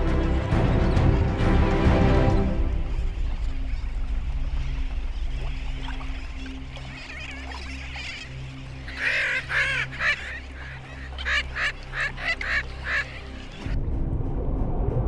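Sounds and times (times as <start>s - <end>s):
seabirds calling: 0.0s - 13.8s.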